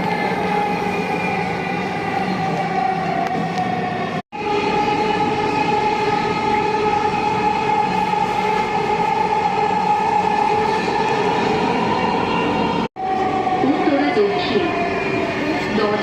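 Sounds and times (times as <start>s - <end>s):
train whine: 0.0s - 16.0s.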